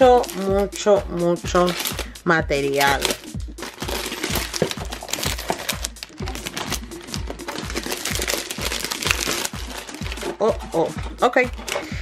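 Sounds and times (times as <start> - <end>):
background music with bass beat: 0.0 - 12.0
plastic wrap crinkling: 1.5 - 11.9.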